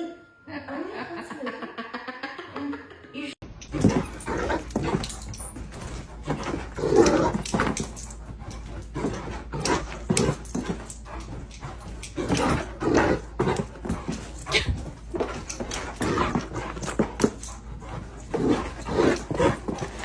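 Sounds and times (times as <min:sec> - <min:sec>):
dog whining and whimpering: 0:03.7 - 0:20.0.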